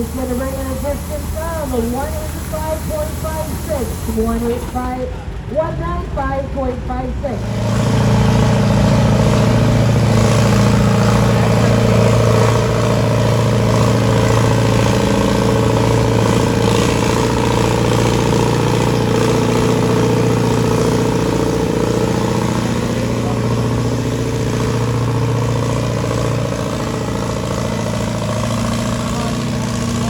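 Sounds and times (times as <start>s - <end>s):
tractor engine running steady: 0.0s - 30.0s.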